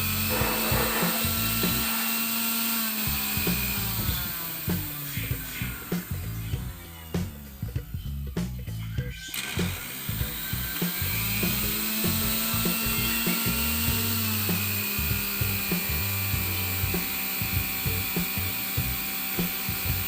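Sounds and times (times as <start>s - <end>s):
juicer motor whine: 0.0s - 8.3s, 9.2s - 20.0s
background music with beat: 0.0s - 20.0s.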